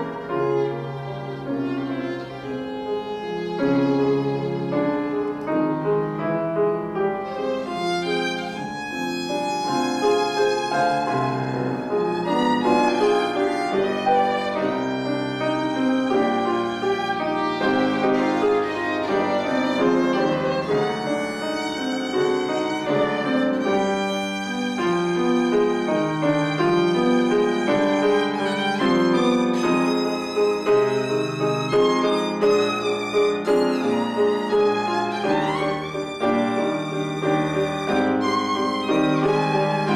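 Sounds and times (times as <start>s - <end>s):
grand piano accompaniment: 0.0s - 39.9s
violin melody: 0.0s - 39.9s.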